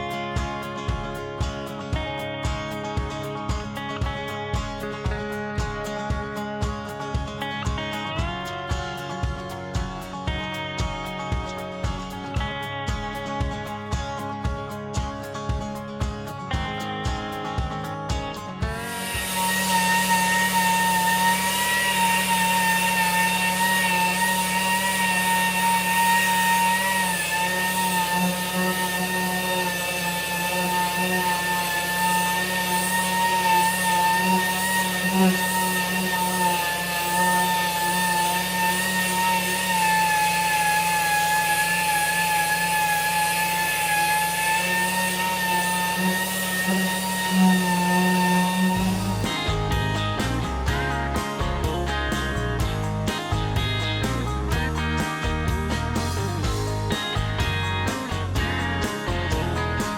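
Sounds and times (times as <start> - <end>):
pneumatic tool whining: 0.0 - 59.9.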